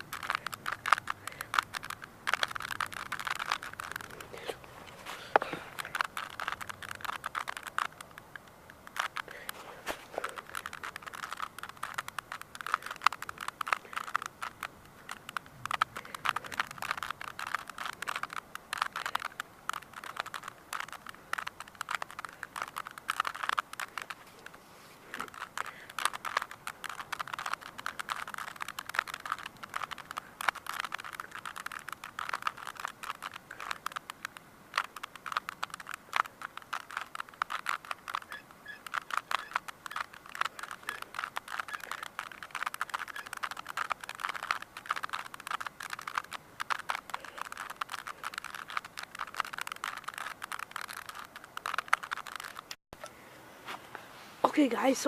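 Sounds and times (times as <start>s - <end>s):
plastic puzzle cube clicking: 0.0s - 52.8s.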